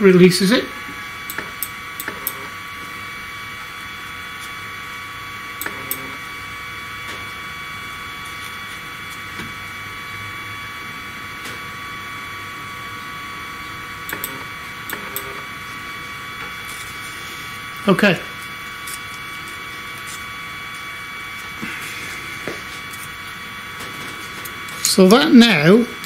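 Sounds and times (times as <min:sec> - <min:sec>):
high-pitched electrical whine: 0:00.0 - 0:26.0.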